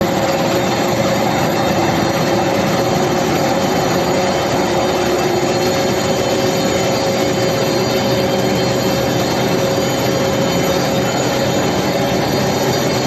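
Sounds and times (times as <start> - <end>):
industrial machinery rushing din: 0.0 - 13.0
steady machine hum: 0.0 - 13.0.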